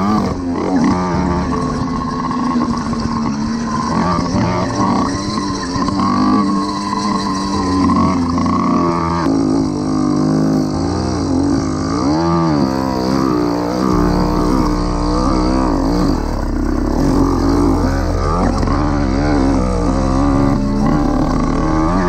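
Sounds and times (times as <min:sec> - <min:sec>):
small petrol engine revving: 0:00.0 - 0:22.0.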